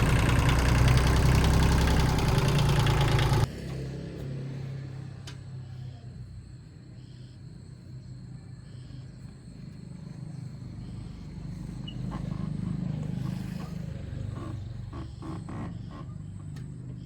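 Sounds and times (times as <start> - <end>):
engine low rumble: 0.0 - 17.0.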